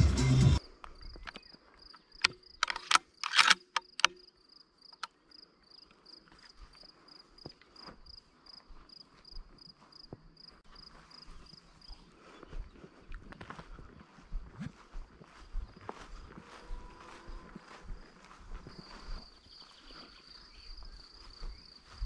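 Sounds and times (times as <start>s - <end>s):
cricket chirping: 0.6s - 14.0s, 15.1s - 22.0s.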